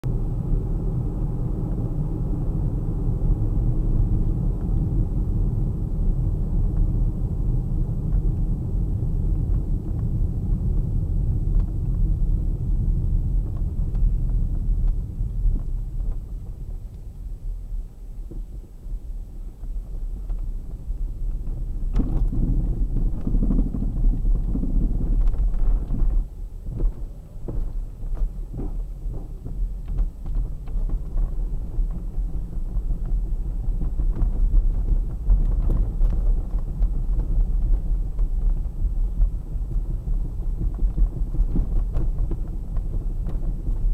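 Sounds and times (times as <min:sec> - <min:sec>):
car road noise rumble: 0:00.0 - 0:43.9.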